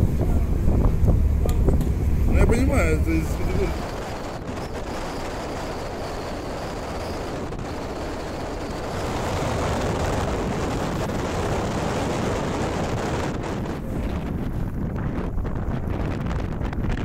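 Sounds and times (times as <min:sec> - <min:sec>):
vehicle motor and road noise: 0:00.0 - 0:14.8.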